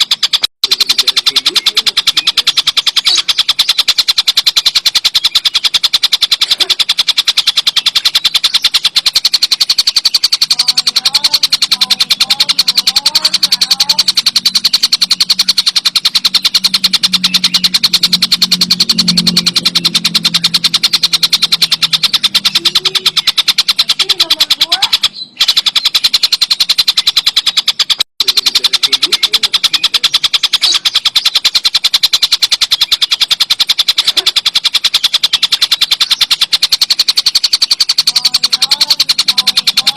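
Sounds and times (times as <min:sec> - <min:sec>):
kingfisher rattling chatter: 0:00.0 - 0:39.9.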